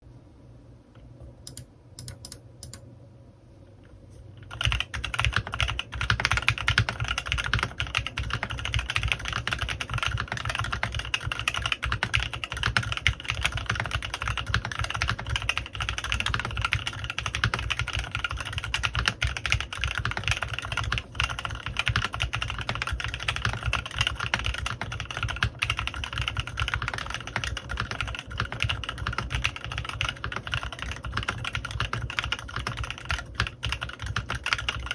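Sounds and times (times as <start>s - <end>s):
typing on mechanical keyboard: 4.4s - 34.9s.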